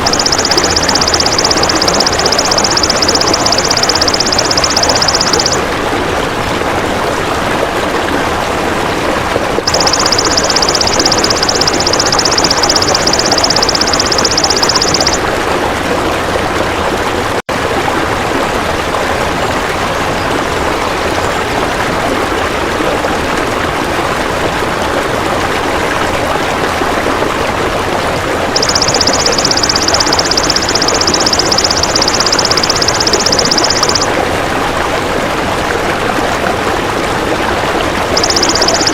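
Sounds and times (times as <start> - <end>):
rushing running water: 0.0 - 38.9.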